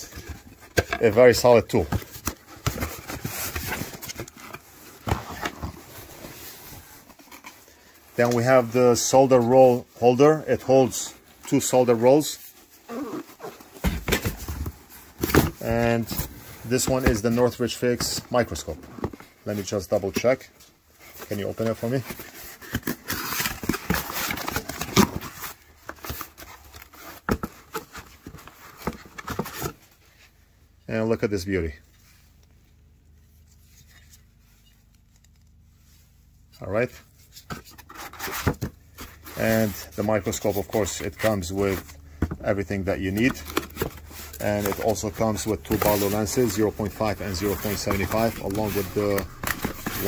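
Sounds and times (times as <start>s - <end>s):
rustling: 0.0s - 30.4s, 31.8s - 50.0s.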